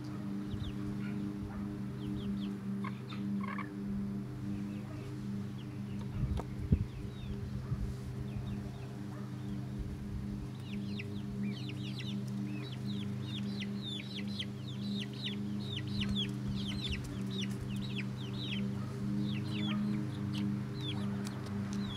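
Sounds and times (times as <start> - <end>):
chicks peeping and chirping: 0.0 - 21.9
steady low hum: 0.0 - 21.9.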